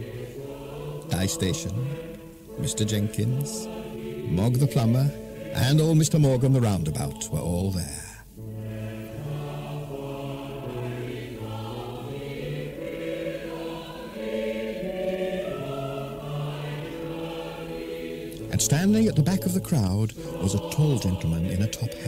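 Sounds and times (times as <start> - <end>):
choir singing held chords: 0.0 - 22.0.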